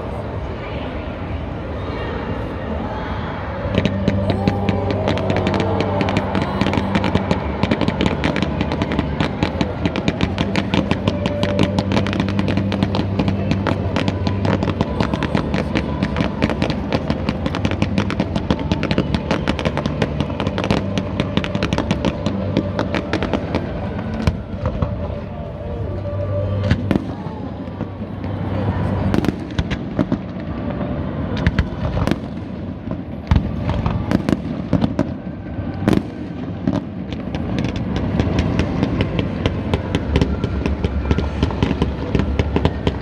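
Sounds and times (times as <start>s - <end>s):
fireworks bangs and crackles: 3.6s - 43.0s.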